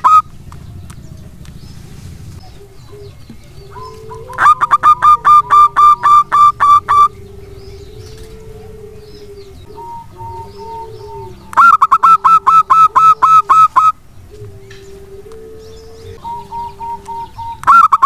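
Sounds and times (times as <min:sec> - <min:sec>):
dove staccato calls: 0:00.0 - 0:18.0
faint low drawn-out tones: 0:00.0 - 0:18.0.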